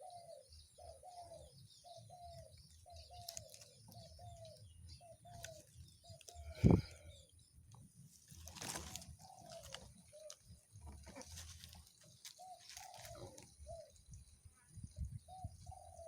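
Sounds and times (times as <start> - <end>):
dove cooing: 0.0 - 7.3, 8.5 - 14.2, 14.9 - 16.0.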